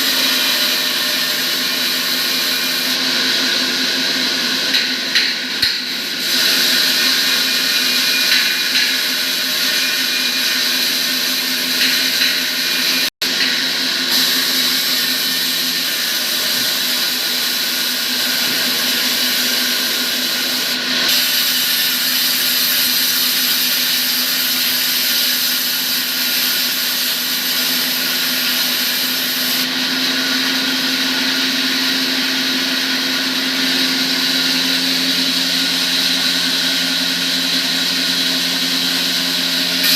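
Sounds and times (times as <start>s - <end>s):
electric workshop machine humming: 0.0s - 39.9s.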